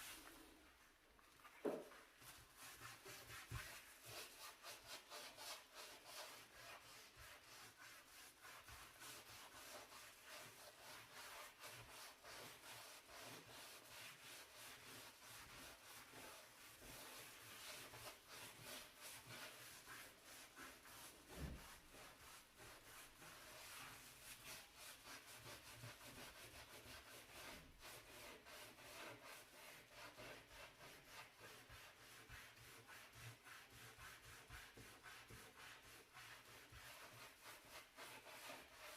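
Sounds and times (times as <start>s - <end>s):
brush scrubbing a stove: 0.0s - 38.9s.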